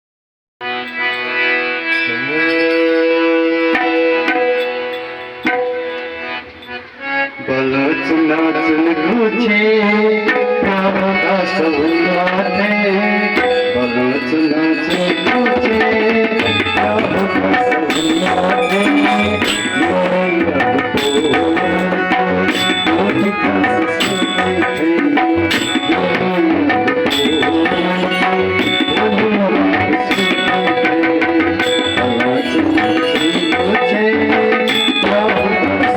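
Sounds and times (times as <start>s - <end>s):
held chords: 0.6s - 35.9s
tabla rhythm: 0.6s - 35.9s.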